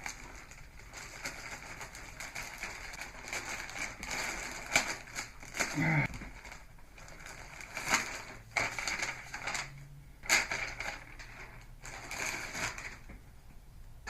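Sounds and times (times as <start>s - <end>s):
packaging rustling and crinkling: 0.0s - 13.3s.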